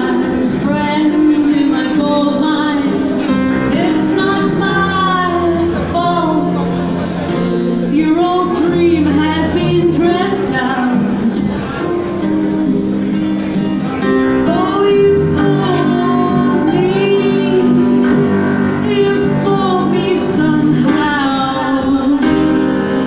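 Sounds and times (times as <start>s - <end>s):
person singing: 0.0s - 12.6s, 14.1s - 23.0s
rock band playing: 0.0s - 23.0s.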